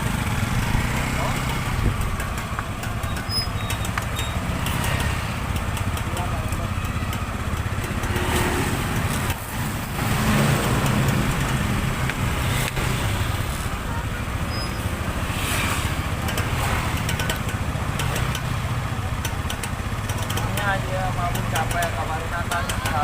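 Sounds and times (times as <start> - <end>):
large vehicle engine running: 0.0 - 23.0
road traffic noise: 0.0 - 23.0.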